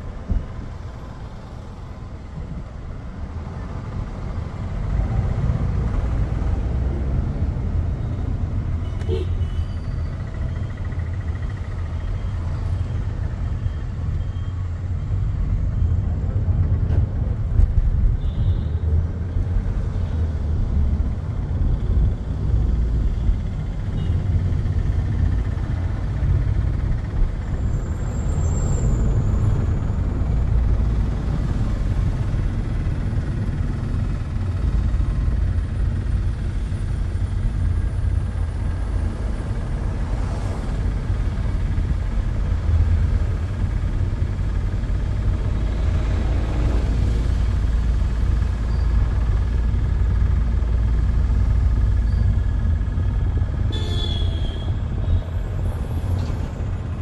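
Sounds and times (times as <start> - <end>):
car engine low rumble: 0.0 - 57.0
tyre and road noise: 0.0 - 57.0.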